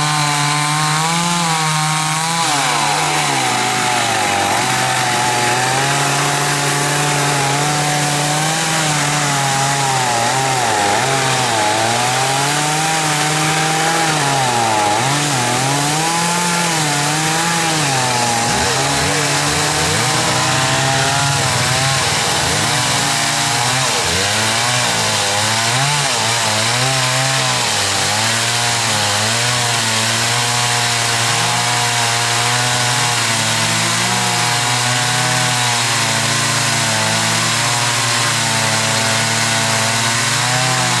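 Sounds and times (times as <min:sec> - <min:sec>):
chainsaw revving while sawing: 0:00.0 - 0:41.0.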